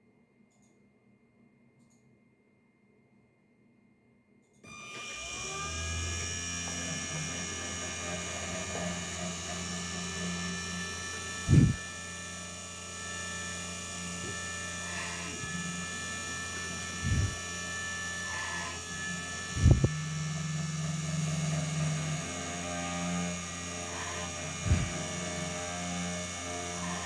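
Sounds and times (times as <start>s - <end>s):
cnc machine motors whining: 4.7s - 27.0s.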